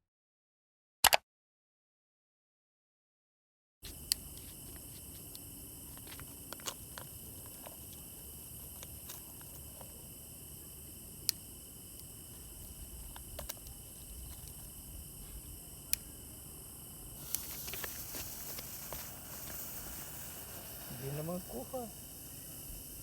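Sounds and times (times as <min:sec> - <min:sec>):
crickets chirping: 0:03.8 - 0:23.0.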